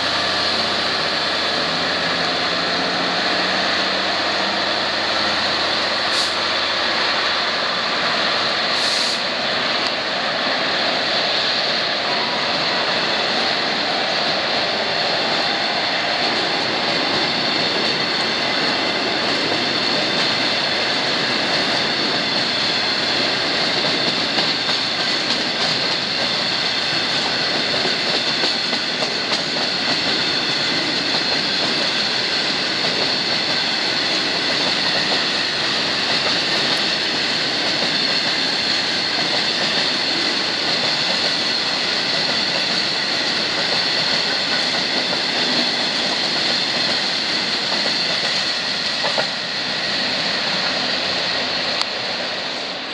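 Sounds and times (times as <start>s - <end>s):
wagon wheels rumbling on rail: 0.0s - 52.7s.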